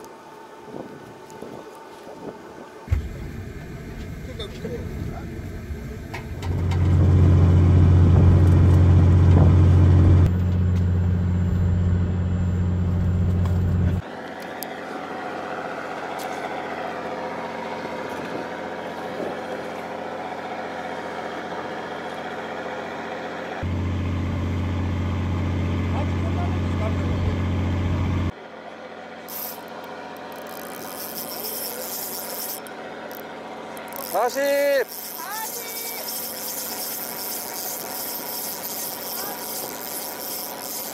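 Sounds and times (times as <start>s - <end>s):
boat machinery humming: 0.0s - 40.9s.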